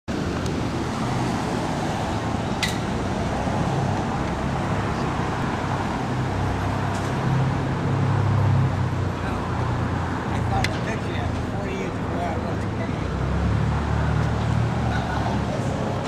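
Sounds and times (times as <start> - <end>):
cars passing: 0.1 - 16.0.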